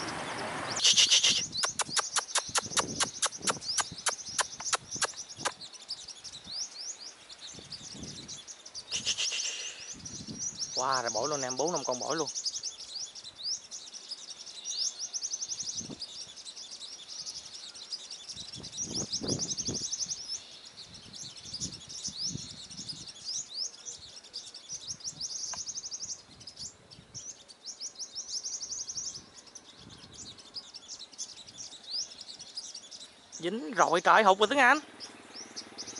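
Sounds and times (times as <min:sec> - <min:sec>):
sunbirds trilling and chipping: 0:00.0 - 0:35.9.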